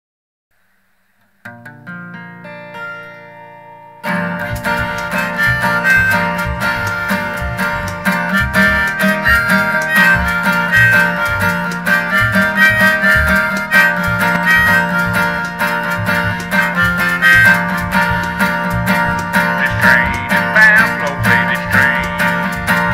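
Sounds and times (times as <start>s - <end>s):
acoustic guitar: 0.6s - 22.9s
opening chord ringing: 2.4s - 20.7s
harmonica: 2.7s - 22.9s.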